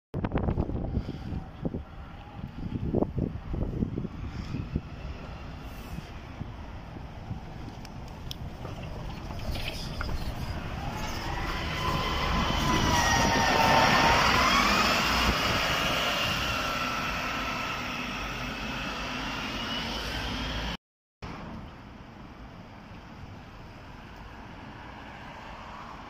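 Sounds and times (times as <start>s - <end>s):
city bus engine whine: 0.4s - 26.0s.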